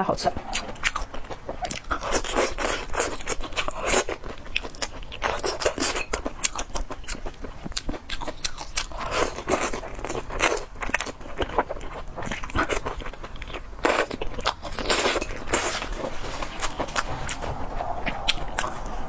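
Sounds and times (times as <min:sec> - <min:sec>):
close chewing with mouth clicks: 0:00.0 - 0:19.0.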